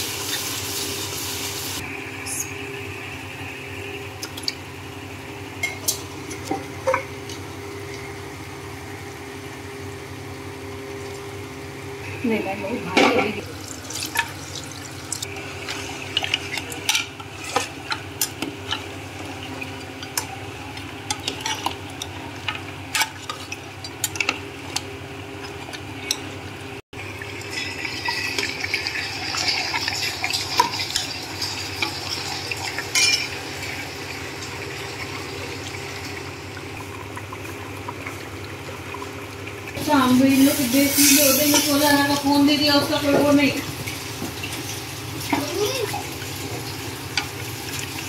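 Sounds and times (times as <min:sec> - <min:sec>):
frying sizzle: 0:00.0 - 0:48.0.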